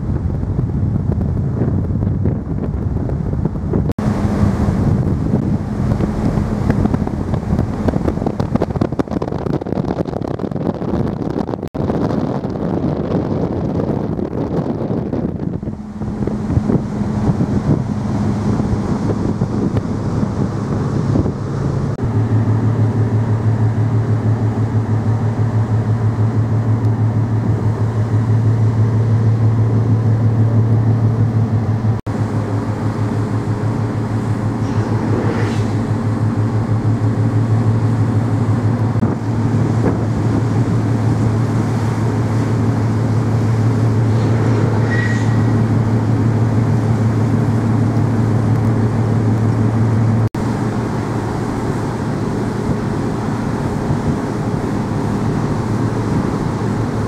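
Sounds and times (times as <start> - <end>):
low throbbing engine hum: 0.0 - 57.0.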